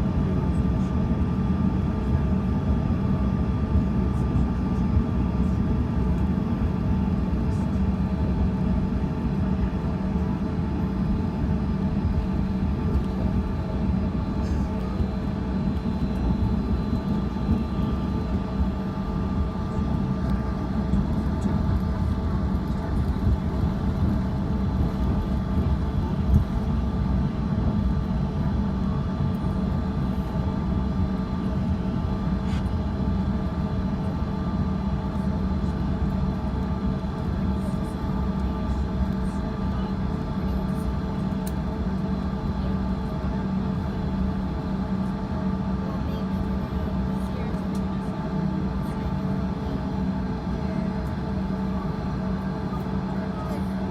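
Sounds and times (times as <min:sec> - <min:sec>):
jet engines idling drone: 0:00.1 - 0:53.9.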